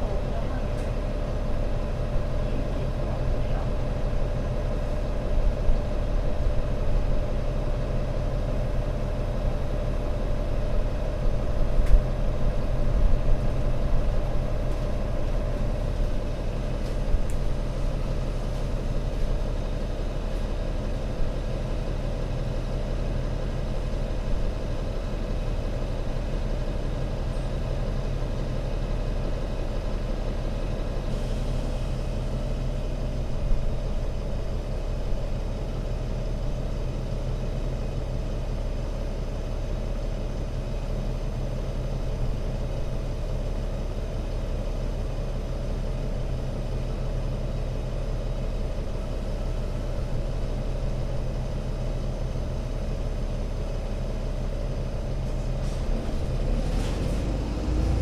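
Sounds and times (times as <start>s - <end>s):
bus diesel engine droning: 0.0s - 58.0s.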